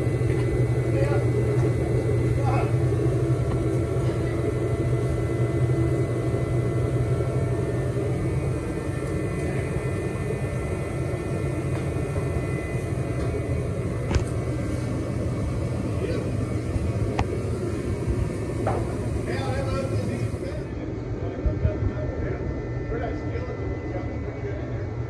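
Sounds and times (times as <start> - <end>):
engine droning with whine: 0.0 - 25.0.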